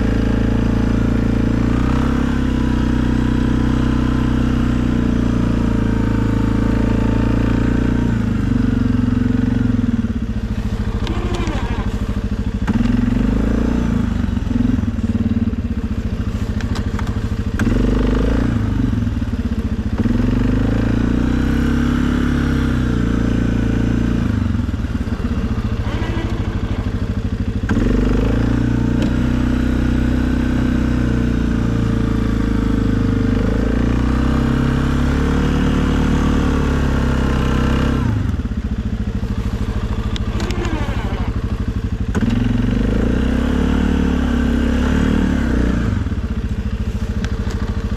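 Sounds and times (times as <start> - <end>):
atv engine revving under load: 0.0 - 47.9.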